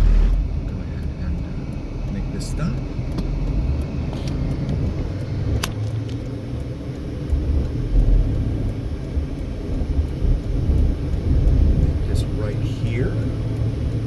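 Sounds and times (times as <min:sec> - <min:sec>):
tyre and engine rumble: 0:00.0 - 0:14.0.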